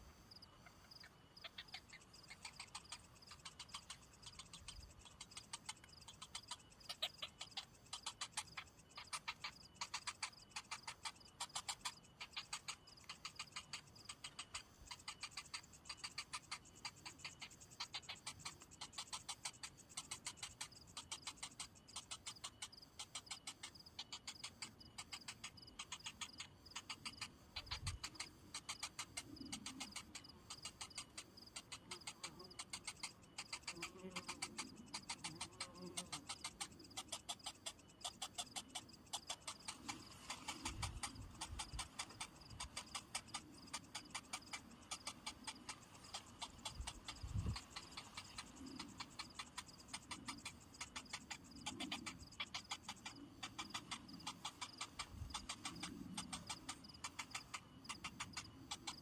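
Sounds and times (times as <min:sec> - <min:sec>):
short ticking animal calls: 0:00.0 - 0:59.0.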